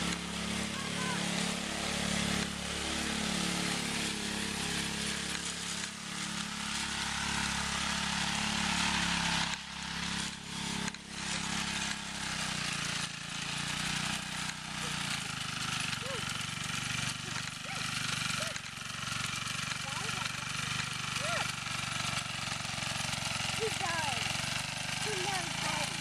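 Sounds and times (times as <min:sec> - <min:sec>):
small tractor engine running: 0:00.0 - 0:26.0.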